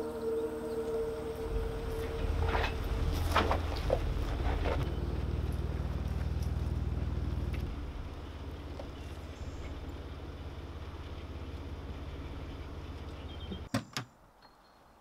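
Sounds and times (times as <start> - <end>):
engine idling: 0.0 - 13.7.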